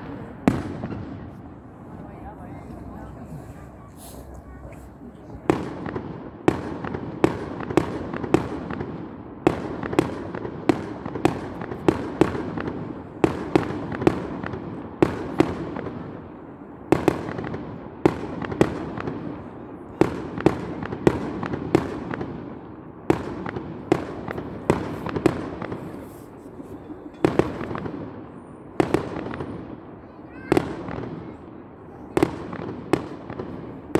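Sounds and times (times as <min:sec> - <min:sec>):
fireworks bangs with echo: 0:00.0 - 0:33.9.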